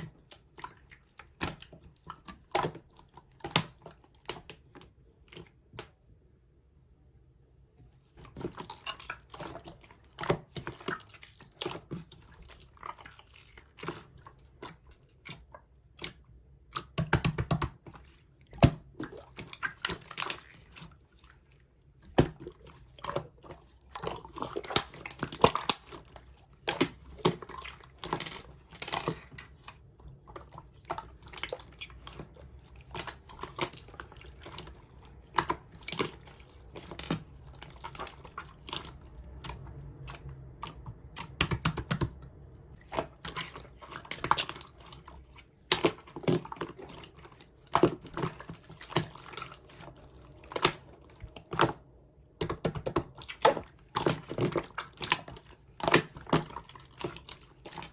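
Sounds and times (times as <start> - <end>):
slime squished by hand: 8.1 - 57.9.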